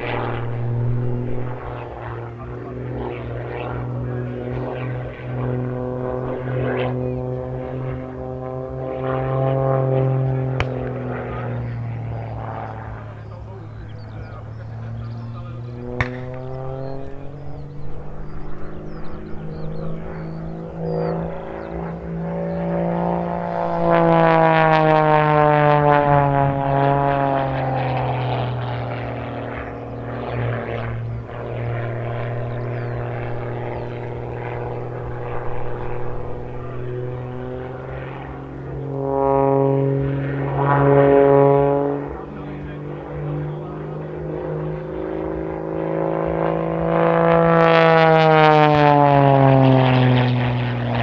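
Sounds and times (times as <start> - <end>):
propeller plane engine: 0.0 - 51.0.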